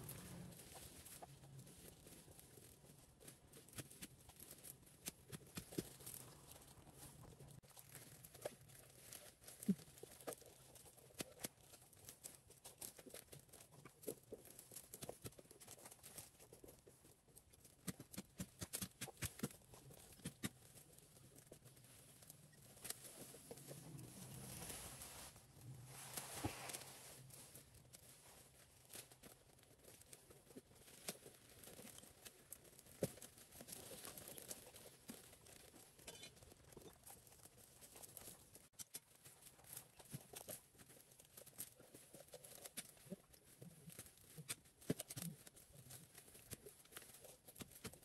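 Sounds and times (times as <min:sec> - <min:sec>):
rustling: 0:00.0 - 0:48.0.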